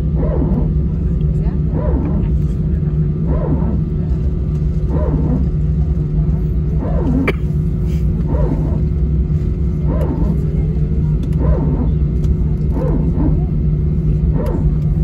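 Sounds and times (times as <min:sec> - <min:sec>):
jet cabin low rumble: 0:00.0 - 0:15.0.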